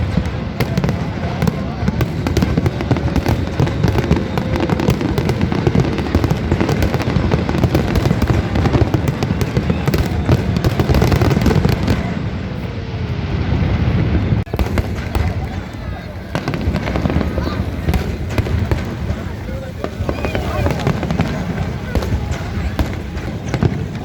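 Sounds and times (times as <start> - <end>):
firework booms and crackling: 0.0 - 24.0.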